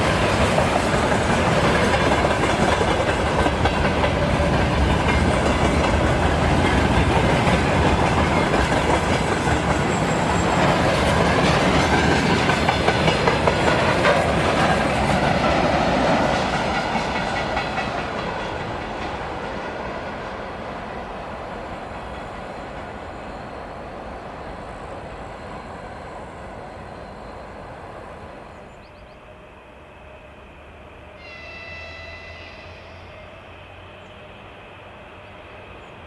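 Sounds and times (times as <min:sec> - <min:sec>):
freight train wheels clacking: 0:00.0 - 0:29.1.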